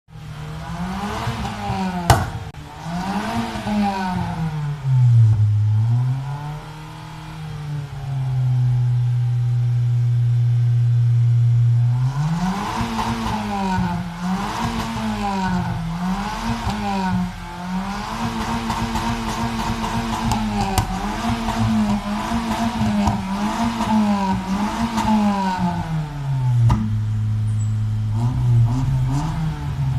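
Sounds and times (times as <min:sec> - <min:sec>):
vehicle engine revving: 0:00.1 - 0:29.9.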